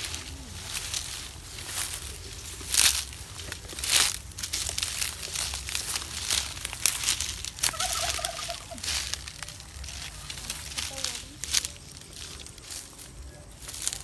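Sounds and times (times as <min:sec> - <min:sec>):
leaves and twigs crackling underfoot: 0:00.0 - 0:14.0.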